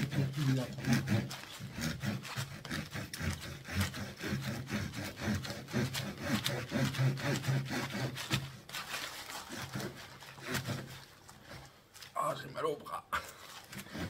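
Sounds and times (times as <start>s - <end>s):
knife sawing through coir brick: 0.0s - 12.0s, 13.3s - 14.0s.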